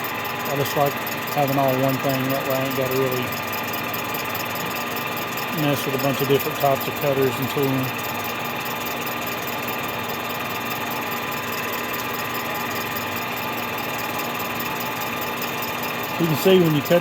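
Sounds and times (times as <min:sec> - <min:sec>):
metal lathe humming and whining: 0:00.0 - 0:17.0.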